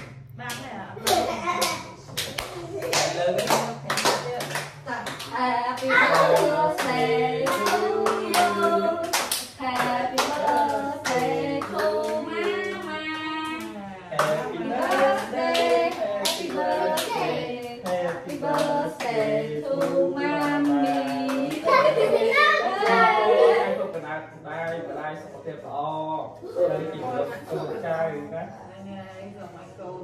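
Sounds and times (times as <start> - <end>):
group singing birthday song: 0.0 - 28.4.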